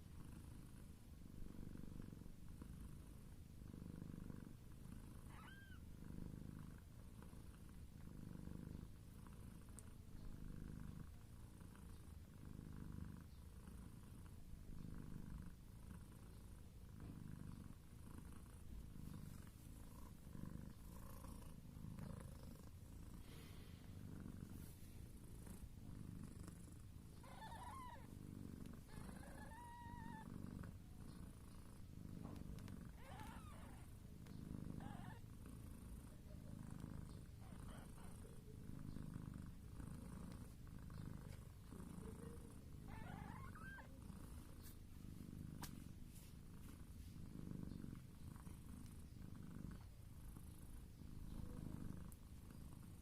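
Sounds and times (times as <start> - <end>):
cat purring: 0.0 - 53.0.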